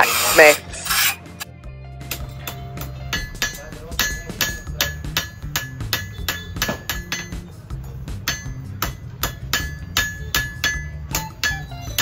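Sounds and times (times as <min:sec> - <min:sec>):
hammer striking metal on anvil: 0:02.0 - 0:12.0.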